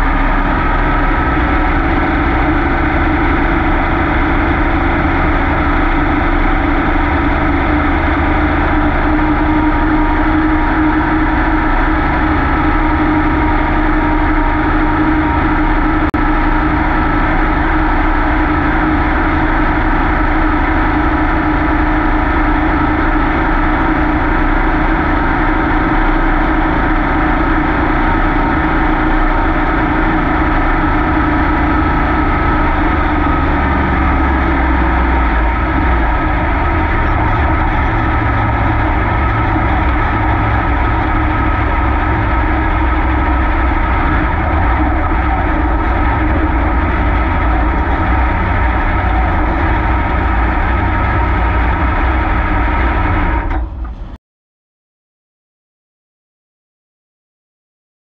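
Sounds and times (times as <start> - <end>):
race car engine running: 0.0 - 54.2.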